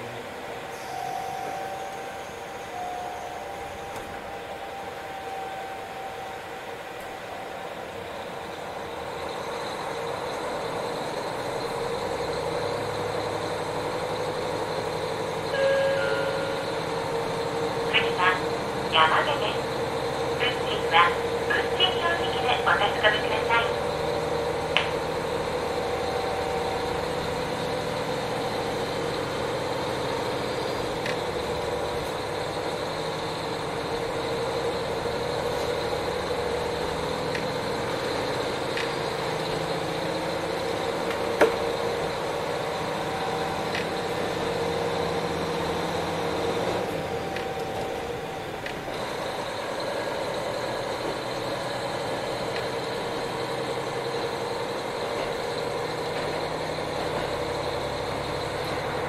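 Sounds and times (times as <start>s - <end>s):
diesel railcar engine and rolling: 0.0s - 59.0s.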